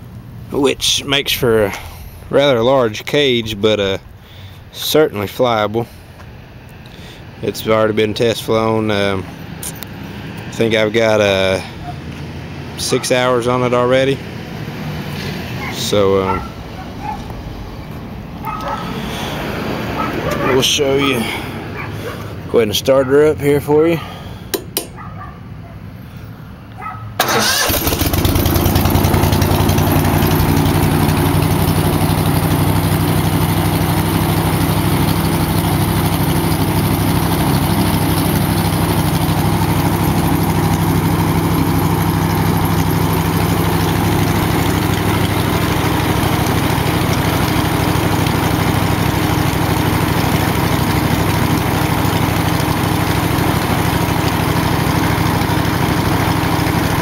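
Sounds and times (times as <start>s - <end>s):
four-stroke engine starting and running: 0.0s - 25.0s, 27.2s - 57.0s.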